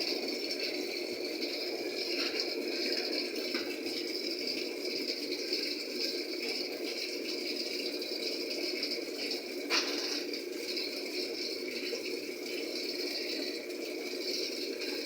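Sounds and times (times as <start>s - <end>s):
water filling washing machine: 0.0s - 15.0s.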